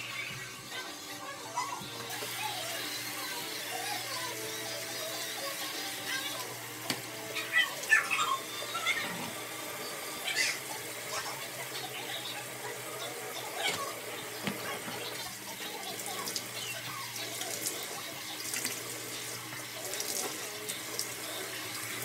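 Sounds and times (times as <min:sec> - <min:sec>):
sink tap running: 0:00.0 - 0:22.0.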